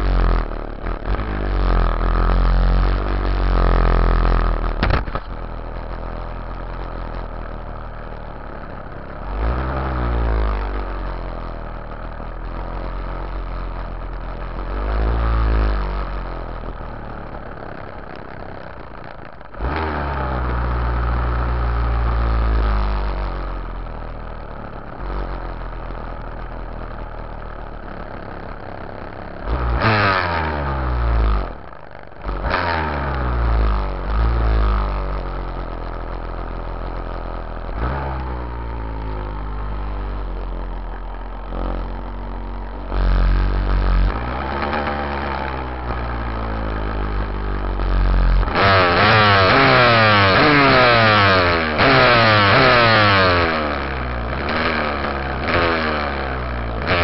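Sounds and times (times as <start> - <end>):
dirt bike engine revving: 0.0 - 7.5, 8.5 - 24.0, 27.0 - 57.0.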